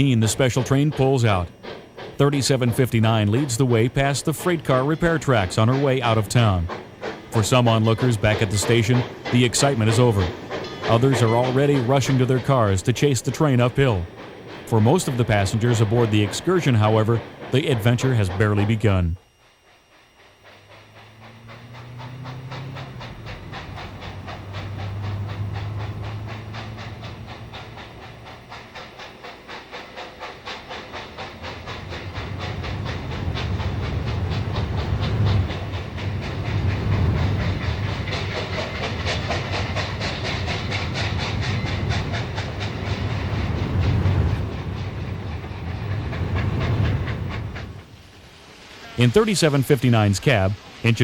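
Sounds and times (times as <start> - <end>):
steam locomotive chuffing: 0.0 - 51.0.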